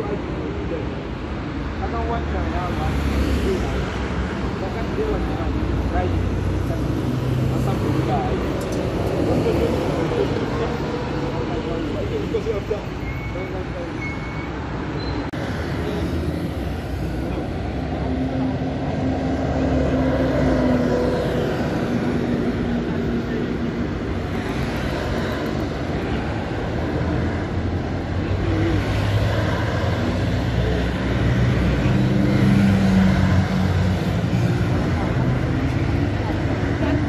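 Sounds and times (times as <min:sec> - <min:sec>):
cars and buses driving past: 0:00.0 - 0:37.0.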